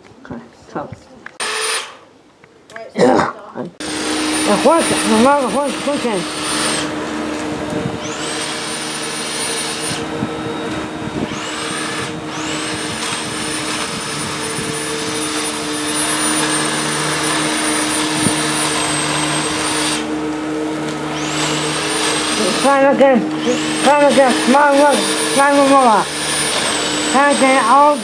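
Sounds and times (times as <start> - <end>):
electric lawnmower motor whining: 3.8 - 28.0.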